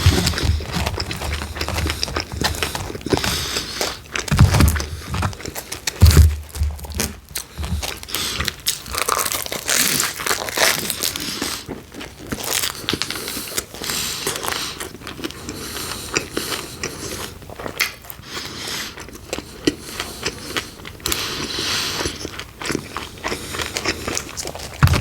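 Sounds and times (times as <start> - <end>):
crunchy pizza biting and chewing: 0.0 - 25.0.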